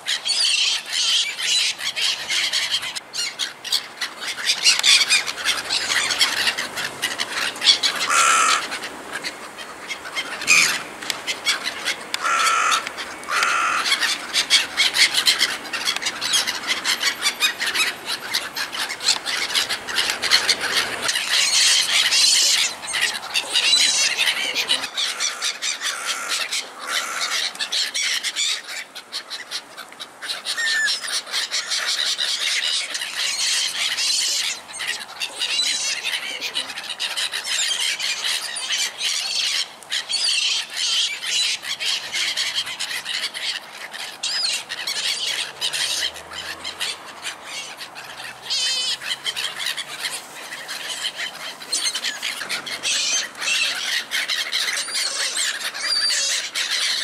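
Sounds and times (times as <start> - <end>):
gulls screeching: 0.0 - 57.0.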